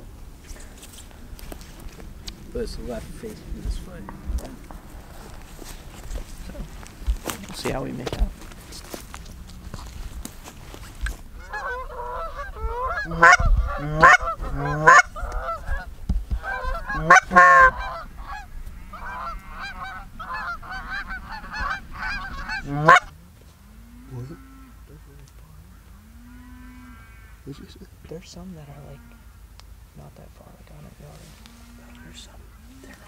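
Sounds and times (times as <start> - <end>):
geese honking and cackling: 1.0 - 27.8, 30.5 - 33.0.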